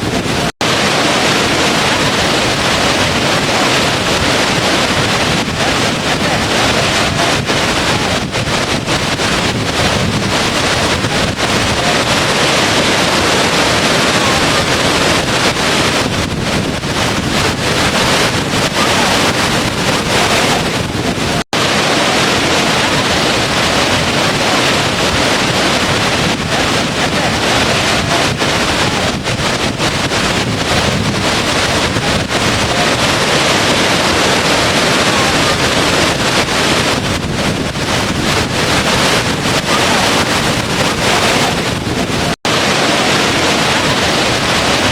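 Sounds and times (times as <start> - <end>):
rush of falling water: 0.0 - 44.9.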